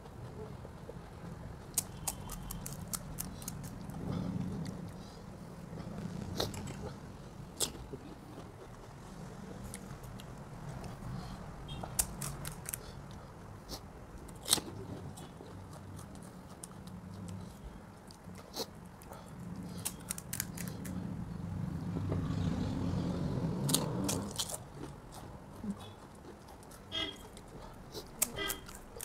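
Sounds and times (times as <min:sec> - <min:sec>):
crunchy chewing: 0:01.6 - 0:21.3, 0:23.6 - 0:29.0.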